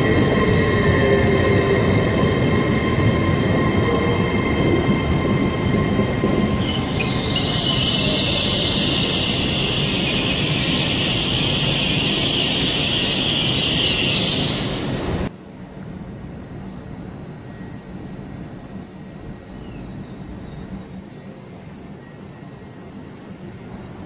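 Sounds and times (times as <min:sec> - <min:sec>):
train brakes squealing: 0:00.0 - 0:15.3, 0:19.0 - 0:23.9
standing train humming: 0:00.0 - 0:24.0.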